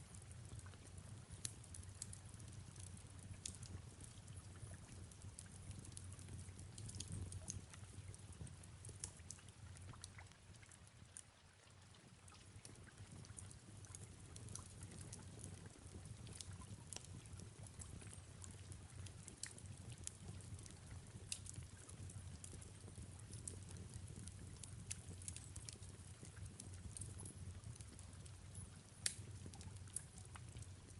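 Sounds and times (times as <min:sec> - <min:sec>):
fireplace crackling and popping: 0:00.0 - 0:30.9
soft rain hiss: 0:00.0 - 0:30.9.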